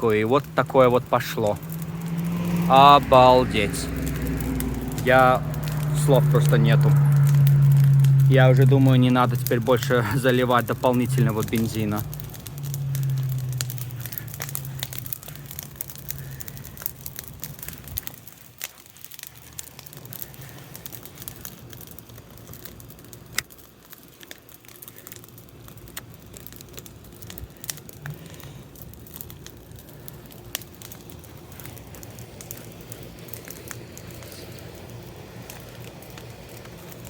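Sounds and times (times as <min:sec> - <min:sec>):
bonfire crackling: 0:00.0 - 0:37.0
fire pops and snaps: 0:00.0 - 0:37.0
low fire rumble: 0:00.0 - 0:37.0.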